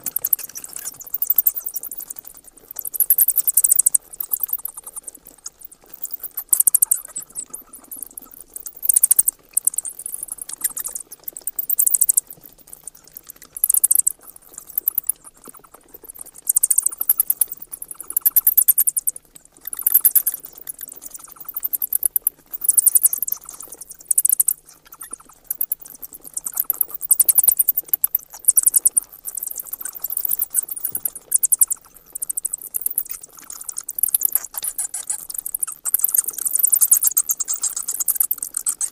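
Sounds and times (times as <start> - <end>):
bats chittering: 0.0 - 38.9.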